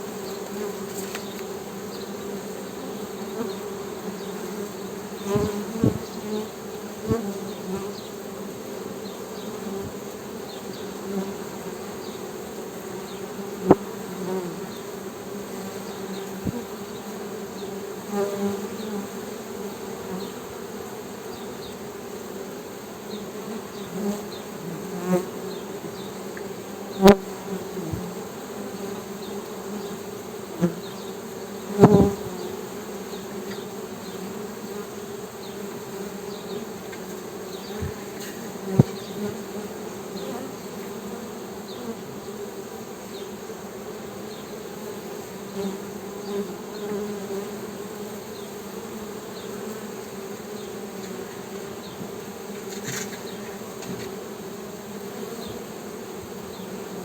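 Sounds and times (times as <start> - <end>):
honey bees buzzing: 0.0 - 57.0.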